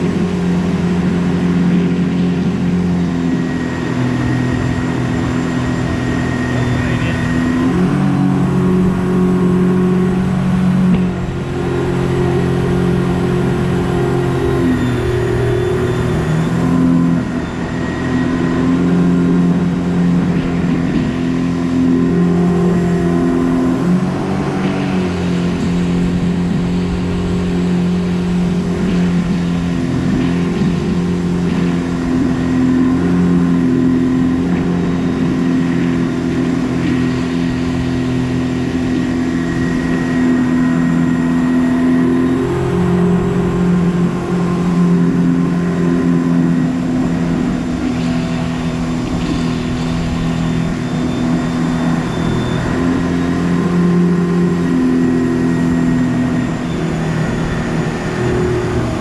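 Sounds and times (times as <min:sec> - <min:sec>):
jet boat engine running: 0:00.0 - 0:59.0
rushing water: 0:00.0 - 0:59.0.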